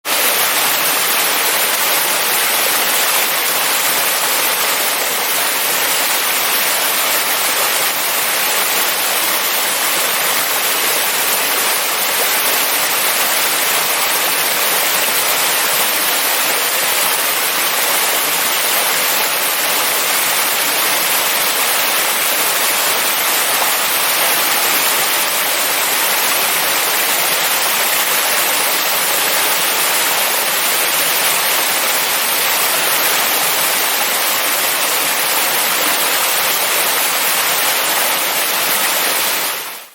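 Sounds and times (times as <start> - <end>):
small waterfall rushing: 0.1 - 39.9.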